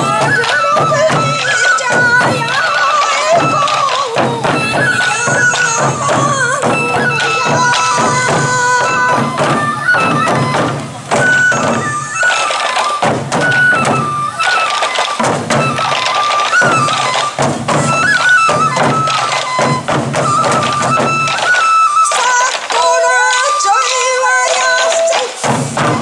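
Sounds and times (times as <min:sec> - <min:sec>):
high bamboo flute melody: 0:00.0 - 0:26.0
taiko drums in quick rhythm: 0:00.0 - 0:26.0.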